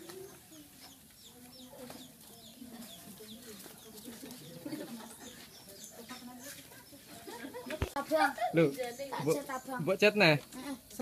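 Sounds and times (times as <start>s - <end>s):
chickens clucking: 0.0s - 11.0s
faint voices murmuring: 0.0s - 11.0s.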